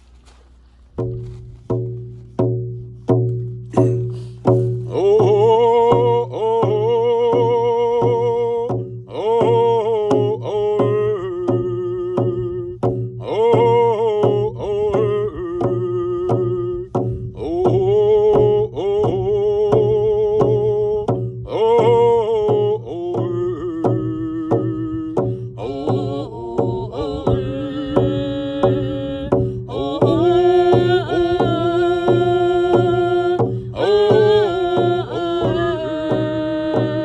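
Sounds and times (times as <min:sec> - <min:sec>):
frame drums beaten: 0:00.9 - 0:37.0
voices singing a chant: 0:04.9 - 0:37.0.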